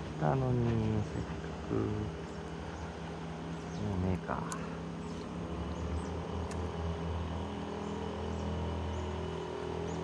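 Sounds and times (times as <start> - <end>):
electric boat motor humming: 0.0 - 10.0.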